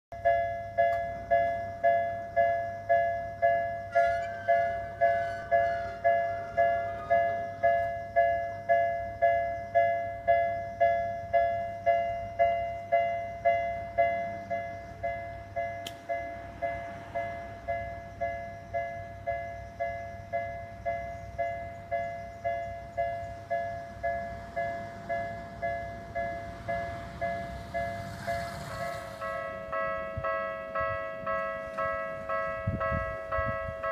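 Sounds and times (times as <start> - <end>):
railroad crossing alarm ringing: 0.1 - 33.9.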